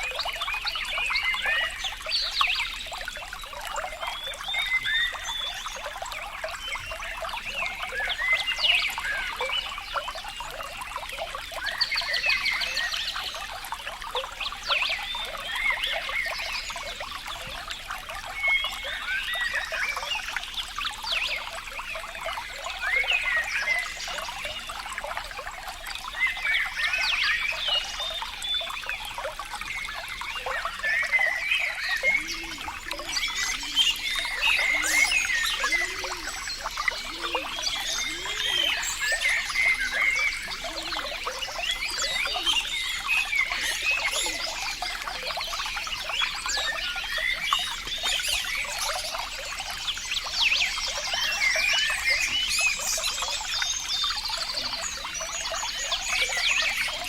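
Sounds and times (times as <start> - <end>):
water trickling over stones: 0.0 - 57.0.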